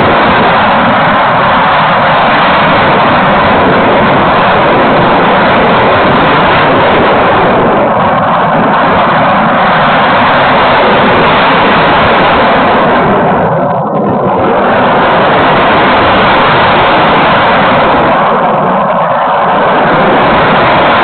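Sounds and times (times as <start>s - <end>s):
model plane propeller: 0.0s - 21.0s
wind rush: 0.0s - 21.0s.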